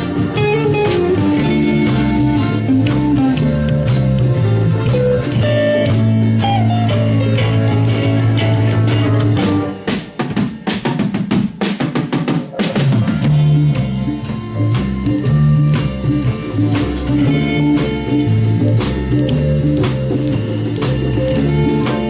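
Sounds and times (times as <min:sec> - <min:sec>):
blues band playing: 0:00.0 - 0:22.0
drum fill: 0:00.0 - 0:22.0.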